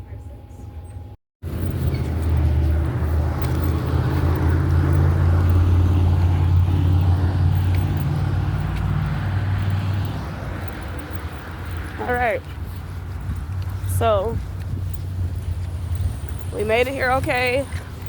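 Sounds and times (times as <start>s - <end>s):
road noise: 0.0s - 18.0s
vehicle engine running: 1.4s - 18.0s.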